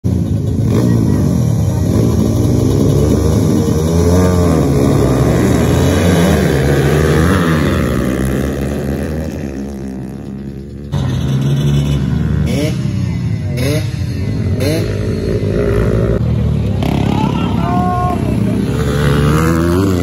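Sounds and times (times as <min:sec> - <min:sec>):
dirt bike engines revving: 0:00.1 - 0:20.0.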